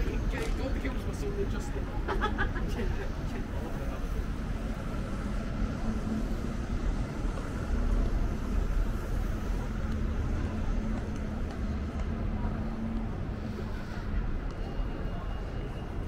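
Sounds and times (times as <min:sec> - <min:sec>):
faint constant hum: 0:00.0 - 0:16.0
low city rumble: 0:00.0 - 0:16.0.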